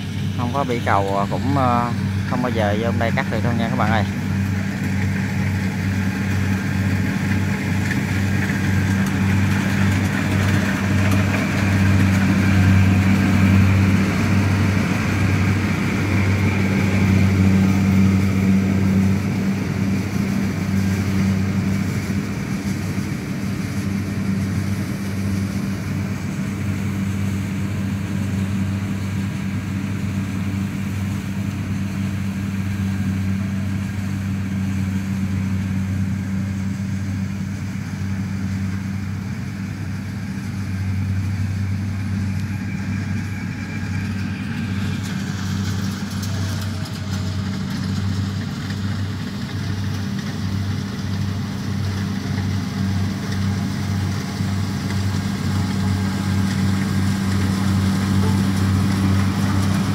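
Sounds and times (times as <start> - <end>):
combine harvester engine running: 0.0 - 59.9.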